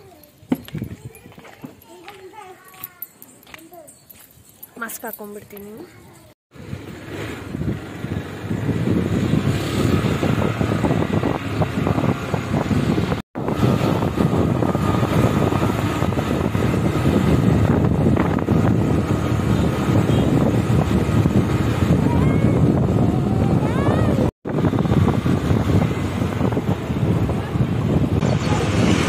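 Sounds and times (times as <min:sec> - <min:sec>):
wind buffeting microphone: 0:00.5 - 0:02.0, 0:06.6 - 0:29.0
motorcycle engine and road noise: 0:03.5 - 0:29.0.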